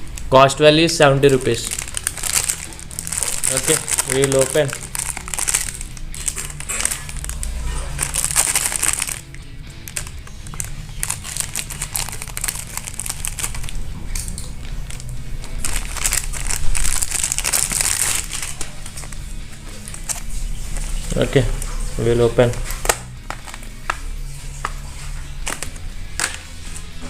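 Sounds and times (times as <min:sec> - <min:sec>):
plastic packaging crinkling: 0:00.0 - 0:24.0, 0:24.6 - 0:26.9
background music: 0:00.0 - 0:27.0.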